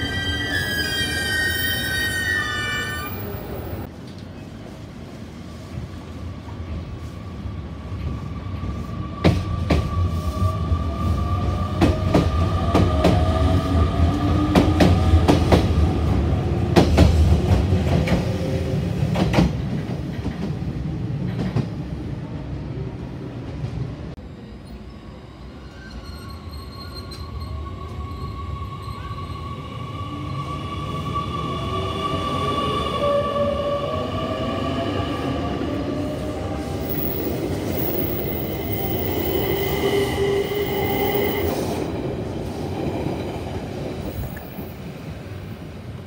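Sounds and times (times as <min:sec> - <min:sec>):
electric train rumble: 0:00.0 - 0:46.0.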